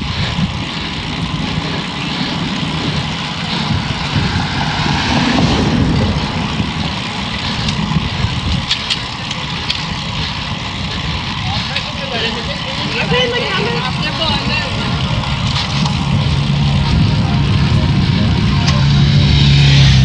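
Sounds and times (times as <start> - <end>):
tyres rolling on asphalt: 0.0 - 20.0
wind buffeting microphone: 0.0 - 20.0.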